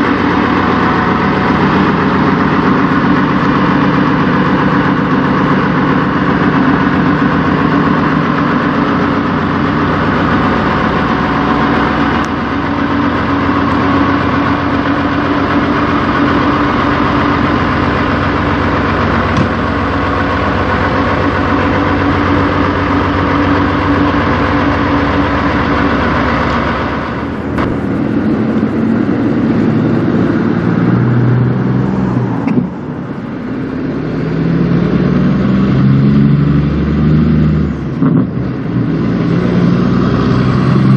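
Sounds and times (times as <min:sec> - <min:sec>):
diesel truck engine idling: 0:00.0 - 0:40.9
truck driving off: 0:00.0 - 0:40.9.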